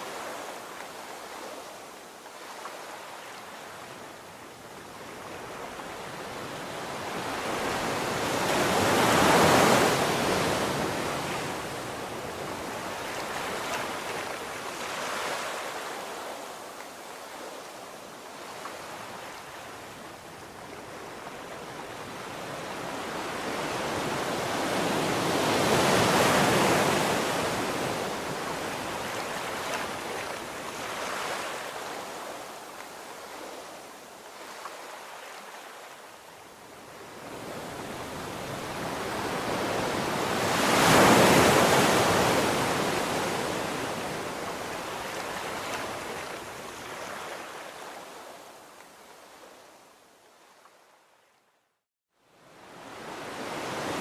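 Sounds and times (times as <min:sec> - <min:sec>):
ocean surf breaking on beach: 0:00.0 - 0:48.4, 0:52.4 - 0:54.0.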